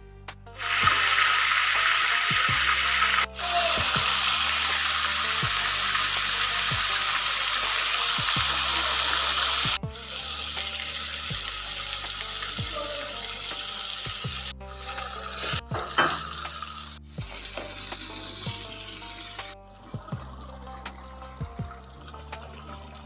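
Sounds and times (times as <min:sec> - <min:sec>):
soft background music: 0:00.0 - 0:23.0
food sizzling in hot oil: 0:00.6 - 0:23.0.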